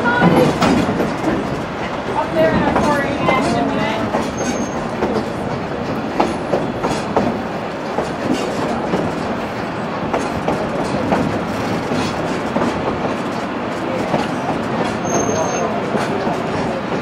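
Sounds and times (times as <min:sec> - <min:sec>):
train rumbling: 0:00.0 - 0:17.0
wheels clacking over rail joints: 0:00.0 - 0:17.0.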